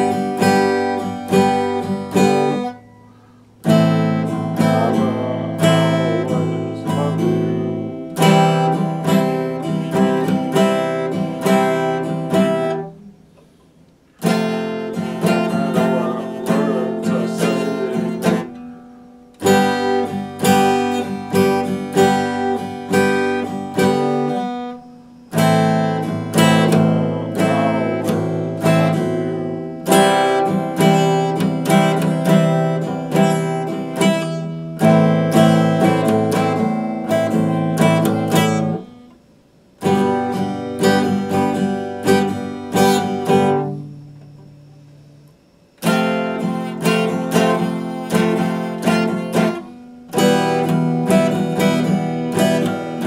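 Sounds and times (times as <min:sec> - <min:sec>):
acoustic guitar strumming chords: 0:00.0 - 0:53.0.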